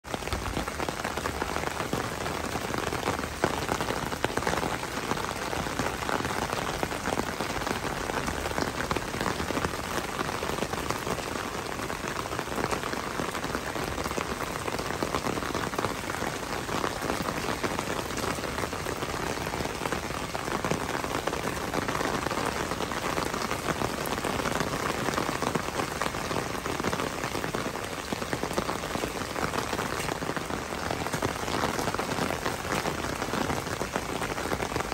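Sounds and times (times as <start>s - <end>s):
rain on wet paving: 0.0s - 34.9s.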